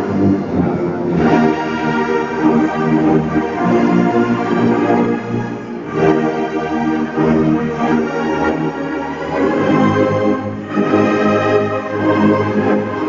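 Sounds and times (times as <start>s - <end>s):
brass orchestra slow chords: 0.0s - 13.0s.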